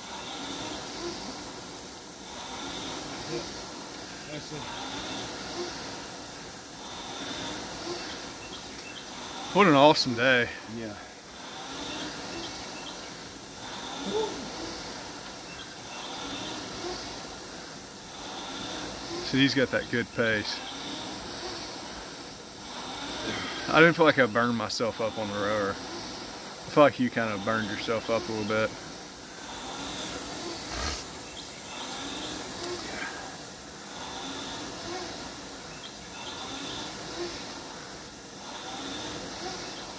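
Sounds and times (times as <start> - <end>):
rowing machine flywheel whooshing: 0.0 - 39.9.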